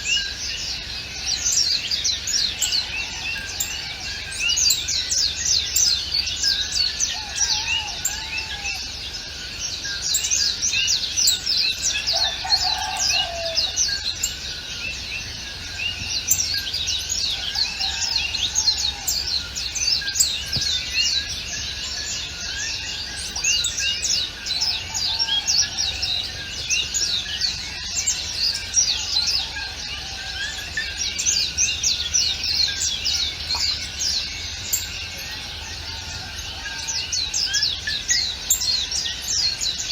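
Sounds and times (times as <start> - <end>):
low curved bird call: 0.0 - 39.9
small birds chirping: 0.0 - 39.9.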